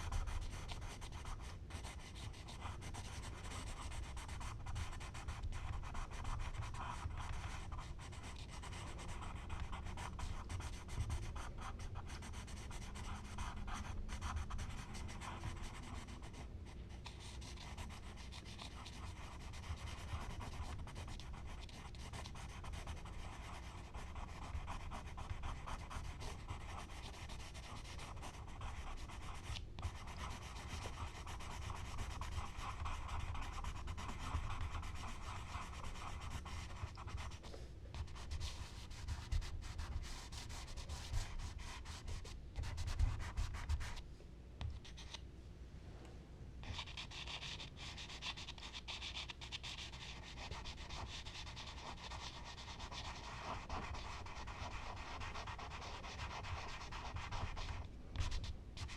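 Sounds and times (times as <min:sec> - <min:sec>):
charcoal scratching on paper: 0:00.0 - 0:44.0, 0:46.6 - 0:58.9.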